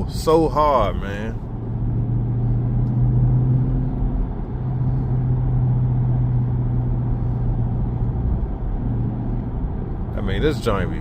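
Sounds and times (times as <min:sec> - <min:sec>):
car engine humming: 0:00.0 - 0:11.0
road and tyre noise: 0:00.0 - 0:11.0.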